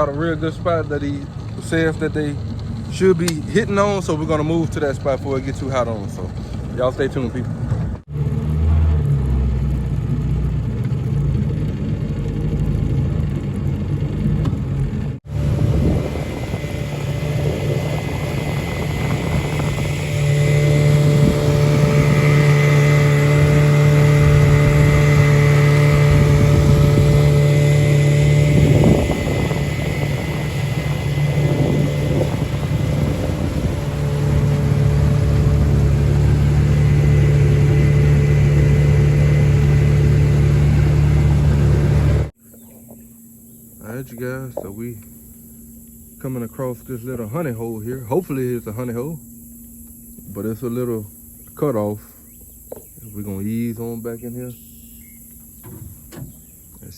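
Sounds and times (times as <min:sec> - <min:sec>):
boat motor running: 0:00.0 - 0:56.9.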